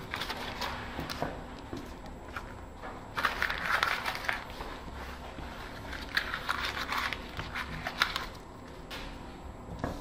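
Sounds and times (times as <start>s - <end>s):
paper rustling and crinkling: 0.0s - 9.1s.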